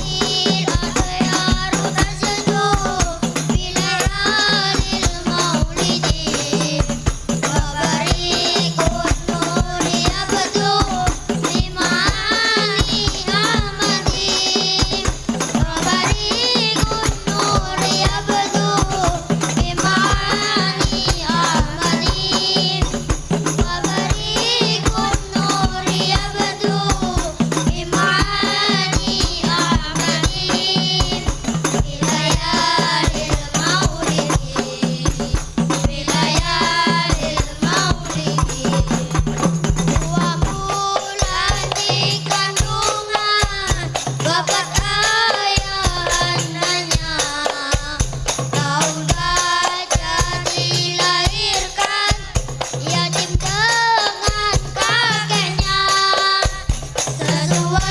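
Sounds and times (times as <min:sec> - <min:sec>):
devotional singing: 0:00.0 - 0:57.9
fast hand percussion with jingle: 0:00.0 - 0:57.9.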